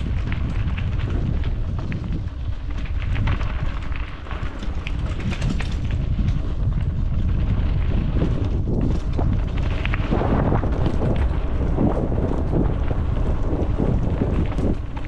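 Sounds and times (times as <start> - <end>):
knocks and rattles from trail: 0.0 - 15.0
wind buffeting microphone: 0.0 - 15.0.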